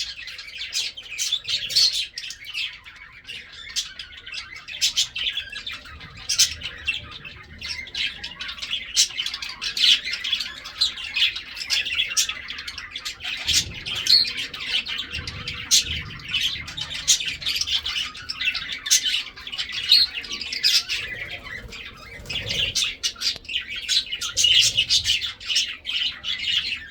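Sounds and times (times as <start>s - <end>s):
lovebirds chirping: 0.0s - 26.9s.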